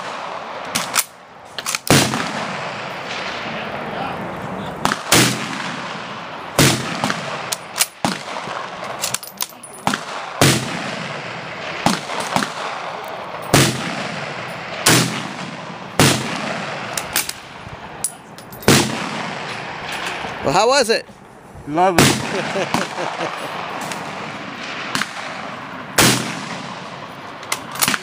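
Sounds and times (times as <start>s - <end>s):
rifle shots echoing: 0.0s - 17.6s, 18.6s - 20.4s, 21.9s - 28.0s.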